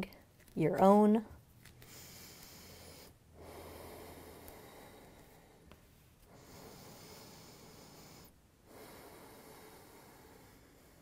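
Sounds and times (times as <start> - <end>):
person breathing slowly: 1.8 - 11.0.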